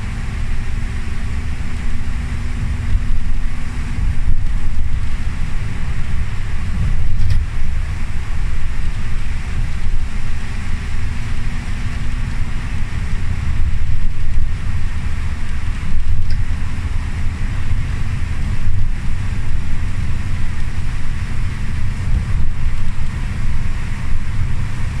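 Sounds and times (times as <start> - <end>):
bus engine and tyres rumbling: 0.0 - 25.0
tyres hissing on wet road: 0.0 - 25.0.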